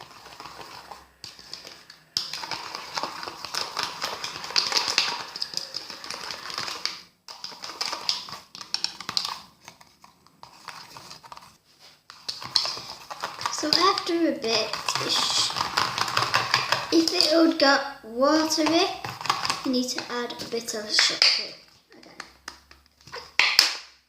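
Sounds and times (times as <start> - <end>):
spoon stirring slime in bowl: 0.0 - 23.5.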